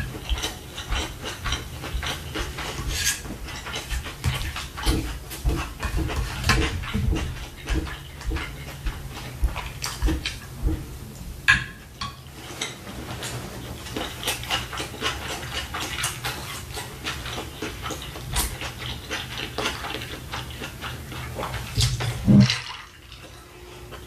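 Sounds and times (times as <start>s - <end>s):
close chewing with mouth clicks: 0.0s - 10.8s, 12.4s - 24.0s.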